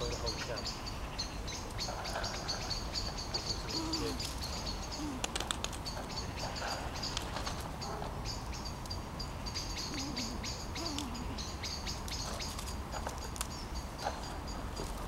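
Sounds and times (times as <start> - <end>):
small birds calling: 0.0 - 15.0.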